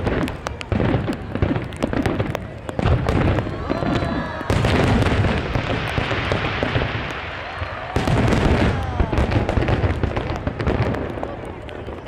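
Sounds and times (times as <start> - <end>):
firework bursts: 0.0 - 12.0
firework crackling: 0.0 - 12.0.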